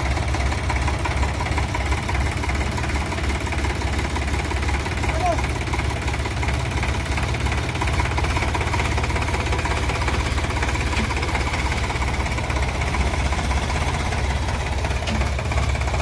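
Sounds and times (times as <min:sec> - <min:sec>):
engine chugging: 0:00.0 - 0:16.0.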